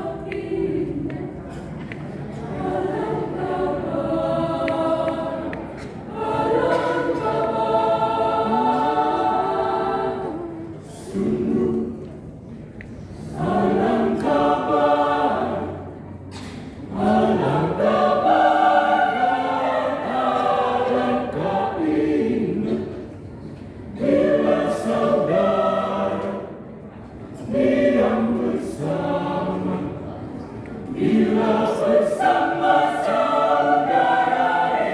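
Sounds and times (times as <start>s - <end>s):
choir singing: 0.0s - 1.7s, 2.3s - 12.4s, 13.1s - 34.9s.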